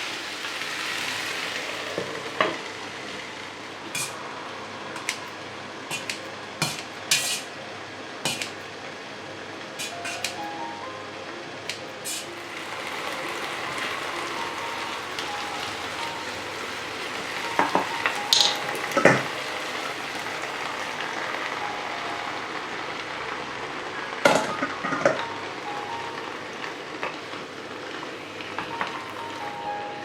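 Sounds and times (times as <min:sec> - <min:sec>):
food sizzling in a frying pan: 0:00.0 - 0:10.7, 0:11.5 - 0:30.0.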